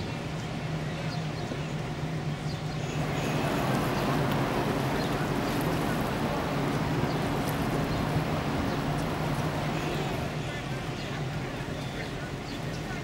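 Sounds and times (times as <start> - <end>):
wind and water rushing: 0.0 - 13.0
ship engines droning: 1.7 - 13.0.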